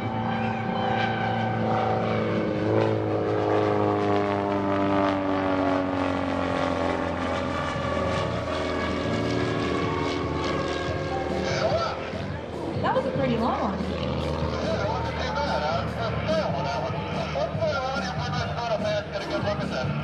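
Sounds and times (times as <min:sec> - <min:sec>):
propeller plane engine: 0:00.0 - 0:20.0.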